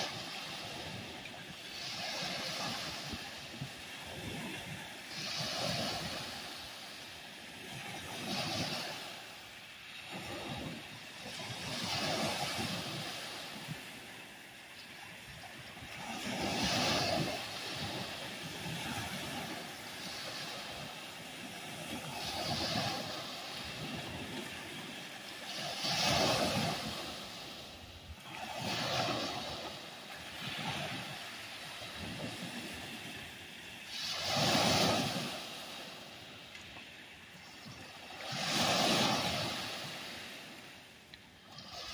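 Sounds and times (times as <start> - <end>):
small waves breaking on beach: 0.0 - 41.9.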